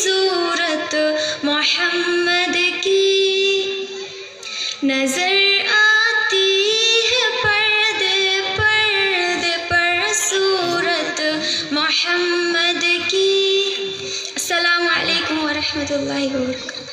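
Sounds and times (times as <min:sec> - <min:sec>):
high voice singing devotional melody: 0:00.0 - 0:16.9.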